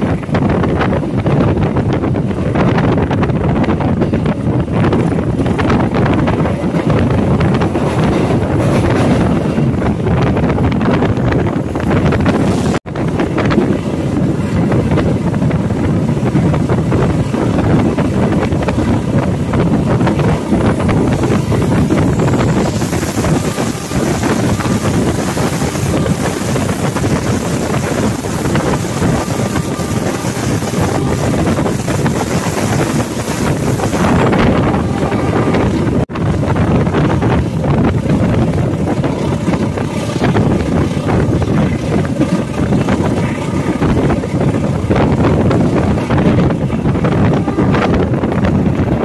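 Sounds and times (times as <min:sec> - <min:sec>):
air rushing past microphone: 0:00.0 - 0:49.0
train wheels rumbling on track: 0:00.0 - 0:49.0.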